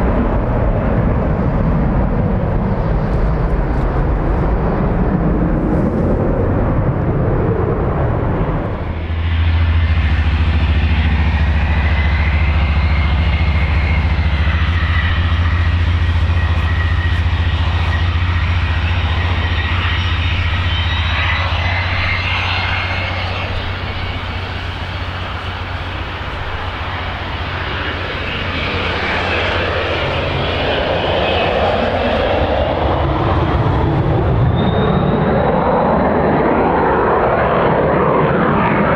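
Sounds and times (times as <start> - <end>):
jet engines whining: 0.0 - 38.9
wind rumble on microphone: 0.0 - 38.9.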